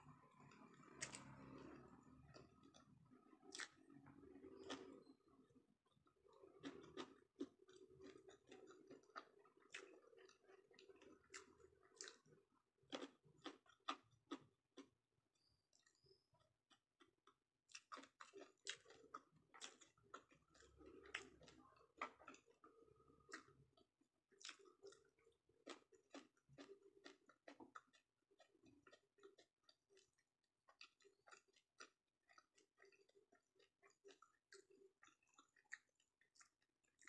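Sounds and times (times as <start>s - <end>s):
chewing with wet mouth smacks: 0.1s - 37.0s.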